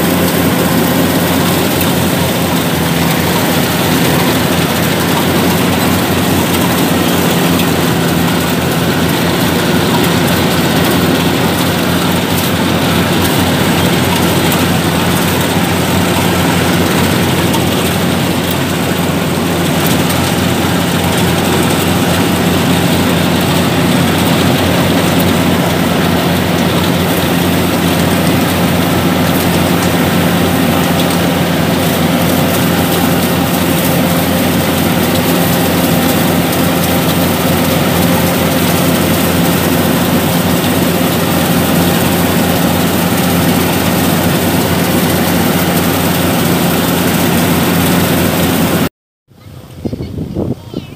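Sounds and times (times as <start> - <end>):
cutting and threshing machinery: 0.0 - 48.9
diesel engine drone: 0.0 - 50.0.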